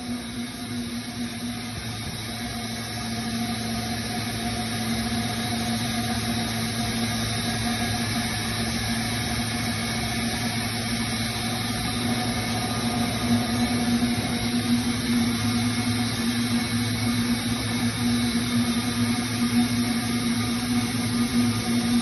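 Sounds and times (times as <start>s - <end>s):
machine humming: 0.0s - 22.0s.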